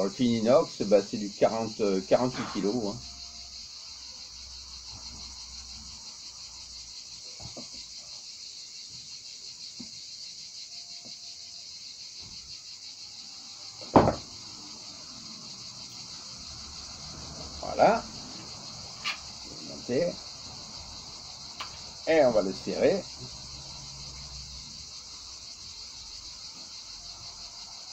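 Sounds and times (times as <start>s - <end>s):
high-pitched insect chirring: 0.0s - 27.9s.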